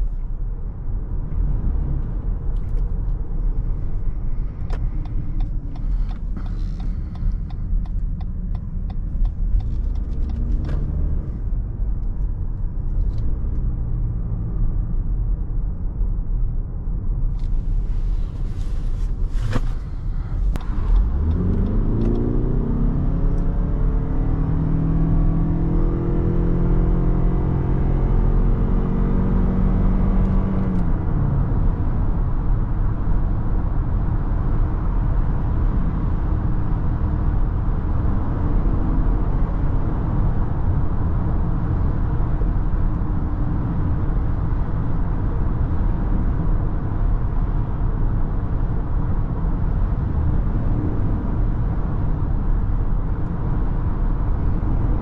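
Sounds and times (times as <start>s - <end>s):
road noise inside car: 0.0s - 55.0s
car engine accelerating: 1.2s - 15.2s, 17.3s - 55.0s.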